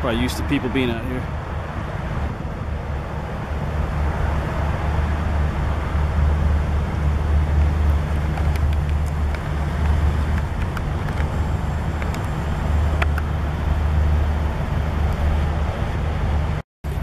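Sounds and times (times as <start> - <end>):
distant highway traffic rumble: 0.0 - 17.0.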